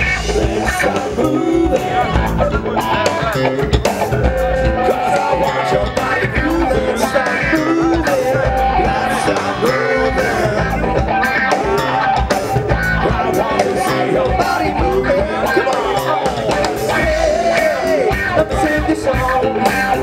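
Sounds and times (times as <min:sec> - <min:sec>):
drum kit groove: 0:00.0 - 0:20.0
electric guitar: 0:00.0 - 0:20.0
person singing into a microphone: 0:00.2 - 0:03.9, 0:04.6 - 0:20.0.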